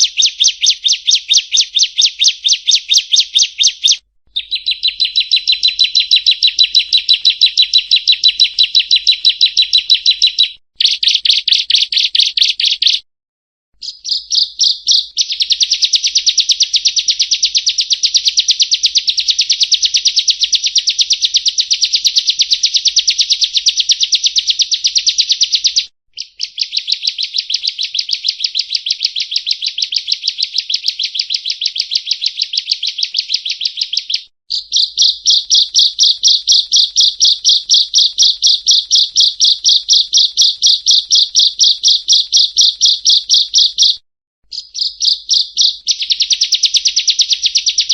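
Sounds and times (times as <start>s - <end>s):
bird singing a rapid trill: 0.0s - 13.0s, 13.8s - 47.9s.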